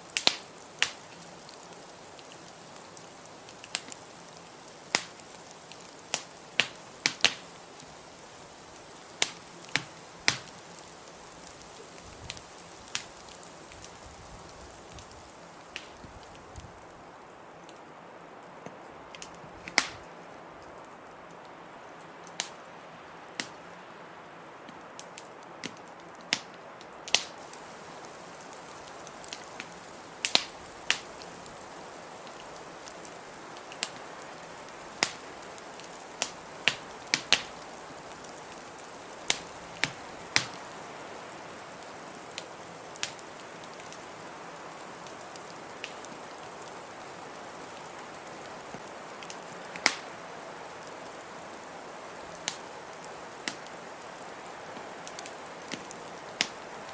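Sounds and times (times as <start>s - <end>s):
rushing hiss: 0.0s - 17.1s, 27.1s - 56.8s
fire popping and snapping: 0.0s - 23.7s, 24.7s - 56.9s
wood fire crackling: 0.0s - 56.9s.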